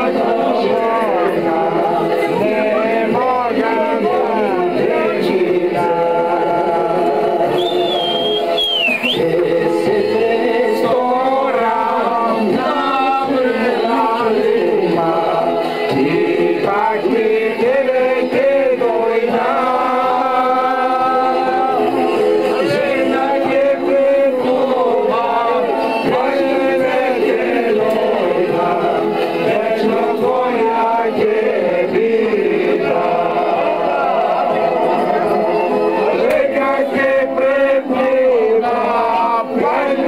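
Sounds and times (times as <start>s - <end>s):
group of men singing: 0.0s - 40.0s.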